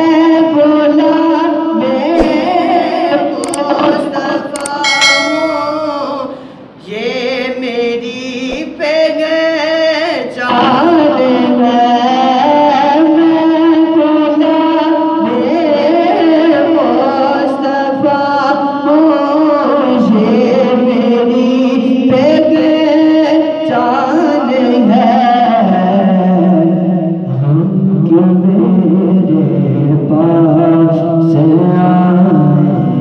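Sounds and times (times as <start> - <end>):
man singing into microphone: 0.0 - 33.0.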